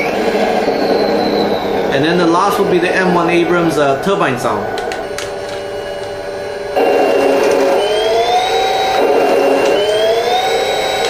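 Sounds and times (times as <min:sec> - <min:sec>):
turbine whine from small speaker: 0:00.0 - 0:11.0.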